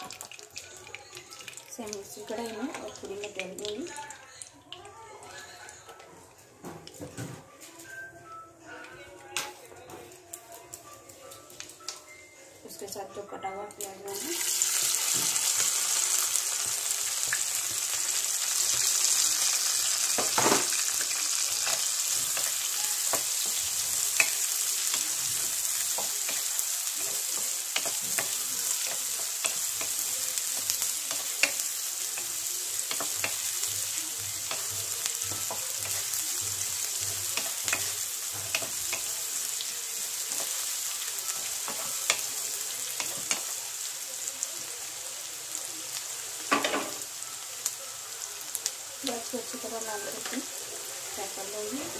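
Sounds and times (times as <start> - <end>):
onions sizzling in hot oil: 0.0 - 4.1, 14.1 - 51.9.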